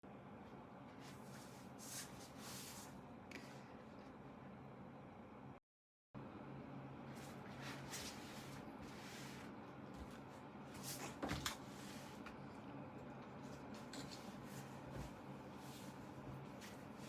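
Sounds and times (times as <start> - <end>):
low steady hum: 0.0 - 5.6, 6.2 - 17.0.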